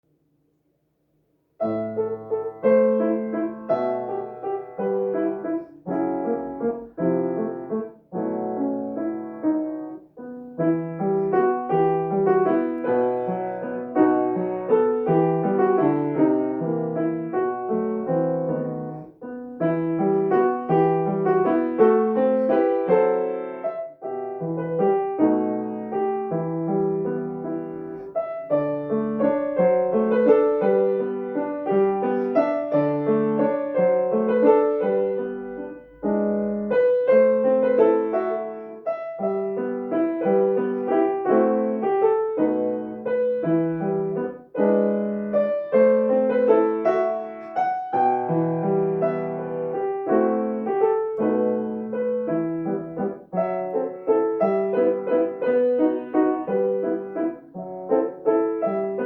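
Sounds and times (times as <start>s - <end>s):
solo piano melody: 1.5s - 59.0s.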